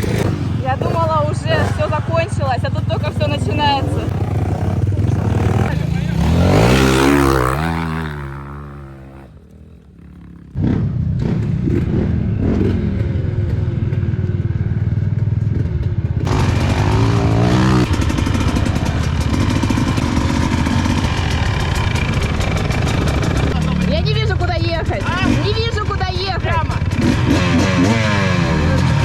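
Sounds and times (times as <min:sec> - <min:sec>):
close motorcycle engine revving: 0:00.0 - 0:29.0
motorcycle engine revving: 0:00.0 - 0:29.0.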